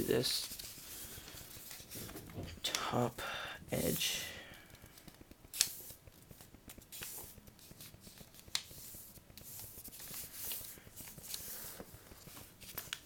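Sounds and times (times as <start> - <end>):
paper being folded and creased: 0.2 - 2.8, 5.0 - 13.0.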